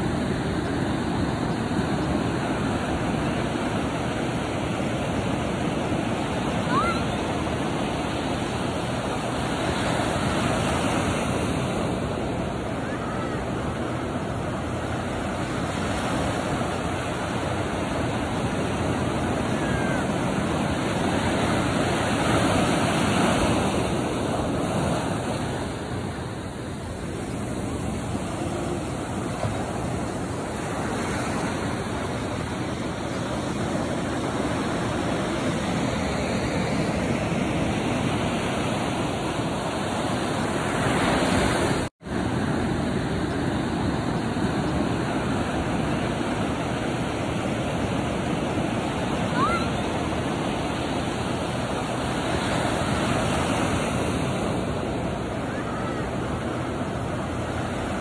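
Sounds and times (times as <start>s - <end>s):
waves washing on sandy beach: 0.0s - 58.0s.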